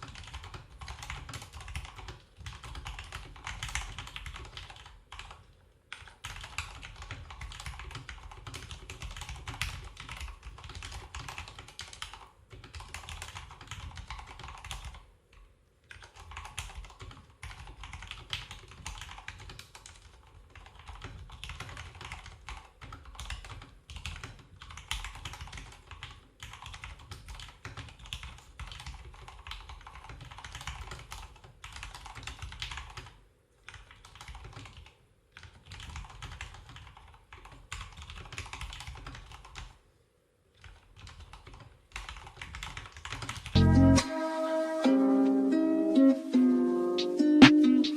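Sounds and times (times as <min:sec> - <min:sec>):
fast typing on mechanical keyboard: 0:00.0 - 0:39.8, 0:40.5 - 0:43.6.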